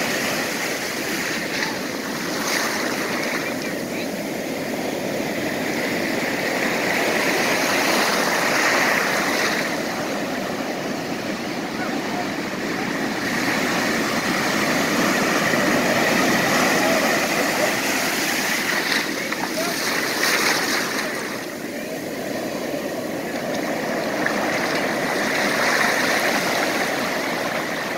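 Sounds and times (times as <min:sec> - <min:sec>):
ocean surf washing over shallows: 0:00.0 - 0:27.9
waves breaking: 0:00.0 - 0:27.9
whitewater rushing: 0:00.0 - 0:27.9.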